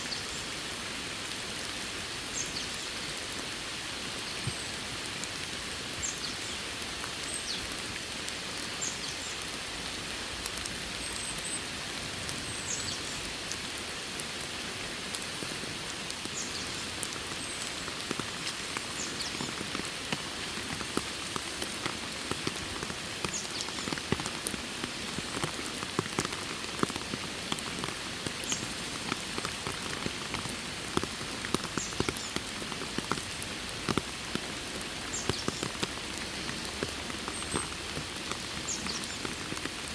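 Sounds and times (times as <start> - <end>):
raindrops ticking: 0.0 - 39.9
steady rain falling: 0.0 - 39.9.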